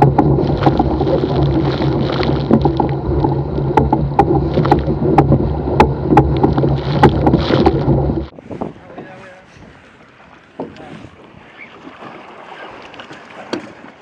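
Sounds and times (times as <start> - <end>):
water and wind rushing: 0.0 - 14.0.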